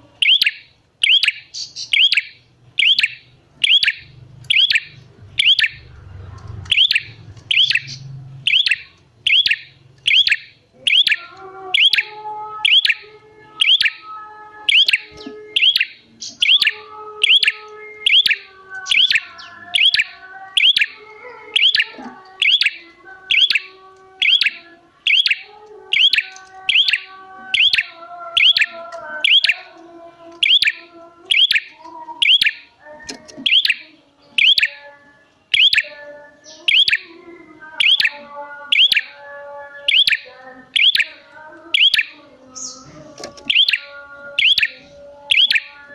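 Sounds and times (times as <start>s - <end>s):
bird sharp high chirps: 0.2s - 5.8s, 6.6s - 14.0s, 14.6s - 29.8s, 30.4s - 37.2s, 37.8s - 39.2s, 39.8s - 45.9s.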